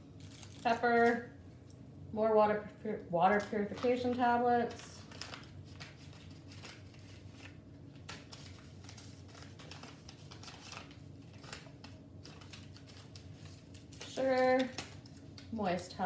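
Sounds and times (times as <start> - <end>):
packets crinkling and clicking: 0.2 - 1.2, 3.3 - 15.6.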